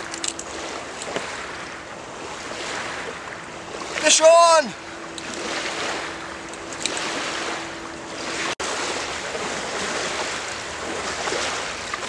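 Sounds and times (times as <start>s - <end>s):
waves lapping on sandy shore: 0.0s - 12.0s.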